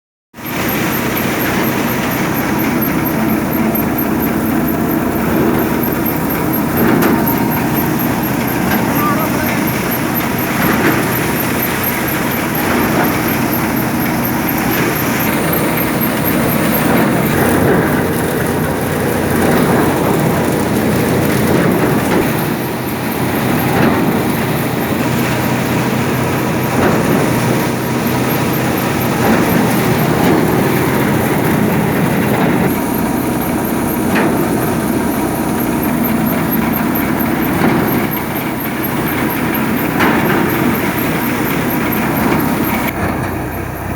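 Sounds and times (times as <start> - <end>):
tractor diesel engine running: 0.3 - 43.9
rattling clatter: 0.5 - 43.9.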